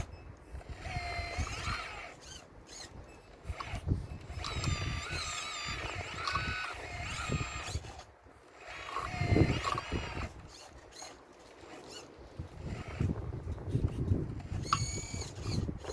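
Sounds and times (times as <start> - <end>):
model excavator motor whine: 0.0 - 15.9.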